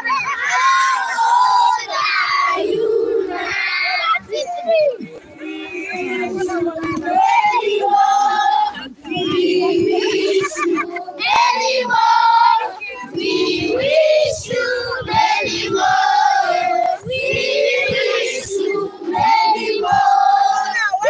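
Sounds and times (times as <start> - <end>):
children and women singing: 0.0 - 4.4, 5.0 - 21.0.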